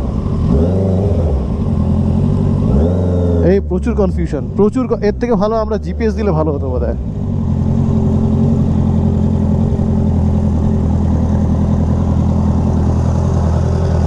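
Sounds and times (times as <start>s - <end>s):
motorcycle engine idling: 1.3s - 14.0s.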